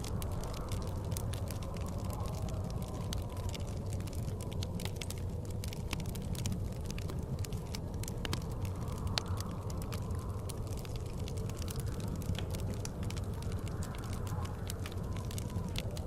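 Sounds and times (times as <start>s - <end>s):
low rumble of blizzard wind: 0.0s - 16.0s
wood fire crackling and popping: 0.0s - 16.0s.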